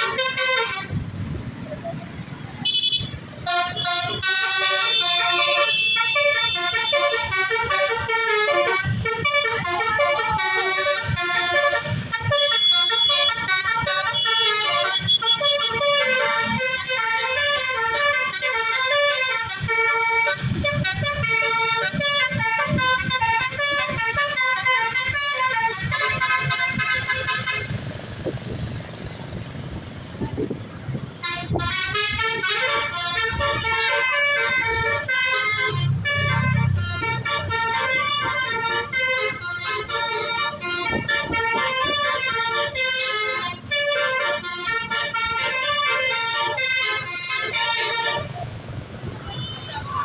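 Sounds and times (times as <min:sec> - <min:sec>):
multi-tone musical bus horn: 0:00.0 - 0:50.0.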